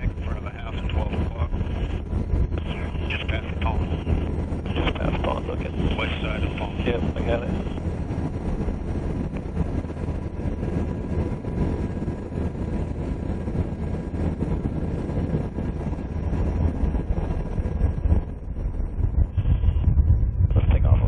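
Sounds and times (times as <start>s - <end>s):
faint steady whine: 0.0s - 21.0s
helicopter rotor and engine drone: 0.0s - 21.0s.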